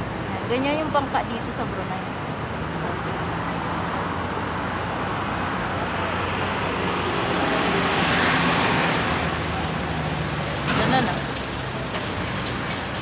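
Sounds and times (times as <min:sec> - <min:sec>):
wind and water rushing: 0:00.0 - 0:11.4.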